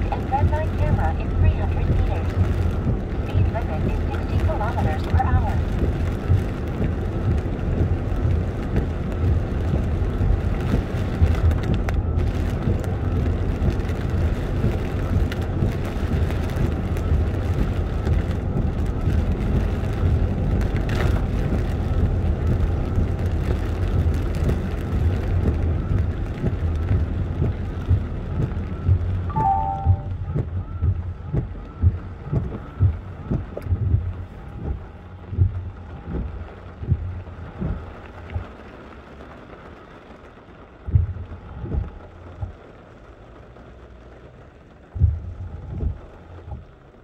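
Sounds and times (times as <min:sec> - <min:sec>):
tyres hissing on wet road: 0:00.0 - 0:30.0, 0:35.8 - 0:47.0
car engine rumble: 0:00.0 - 0:47.0.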